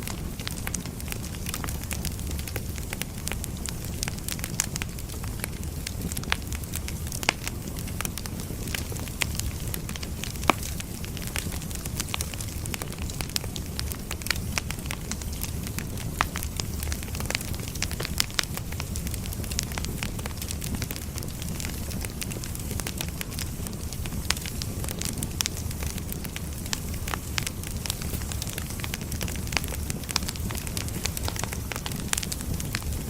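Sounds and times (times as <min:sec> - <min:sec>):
firewood crackling: 0:00.0 - 0:33.0
low rumble of fire: 0:00.0 - 0:33.0
sharp pops of burning wood: 0:00.0 - 0:33.0.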